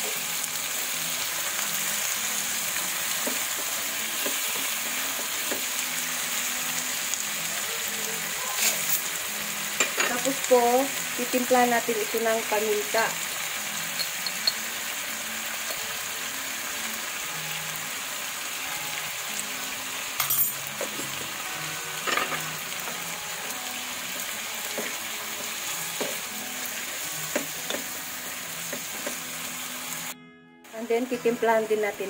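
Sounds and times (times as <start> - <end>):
food sizzling in a wok: 0.0 - 30.2, 30.8 - 32.0.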